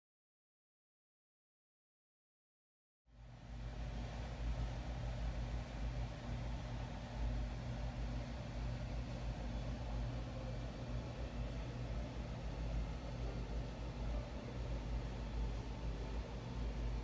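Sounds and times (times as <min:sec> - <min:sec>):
machine humming: 0:03.1 - 0:17.0.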